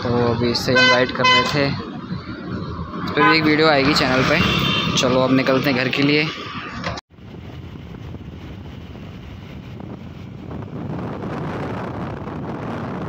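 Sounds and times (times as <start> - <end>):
motorcycle road and engine noise: 0.0 - 13.0
wind rushing over microphone: 0.0 - 13.0.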